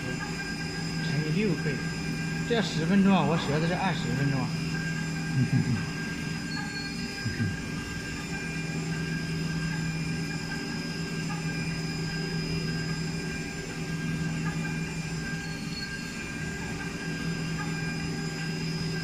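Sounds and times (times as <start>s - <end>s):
milling machine spindle humming: 0.0s - 19.0s.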